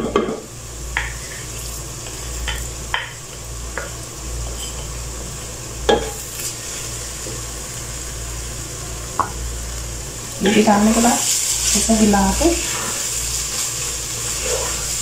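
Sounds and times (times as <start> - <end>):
steady low hum: 0.0 - 15.0
meat sizzling in a pan: 0.3 - 15.0.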